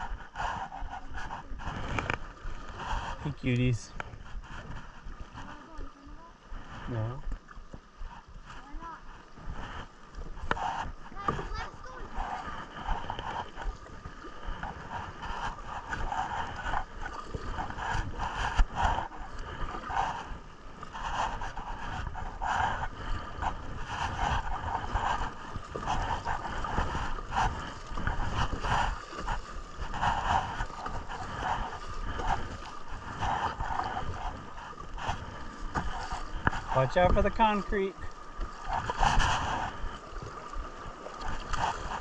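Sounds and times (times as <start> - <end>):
river water rushing and splashing: 0.8 - 42.0.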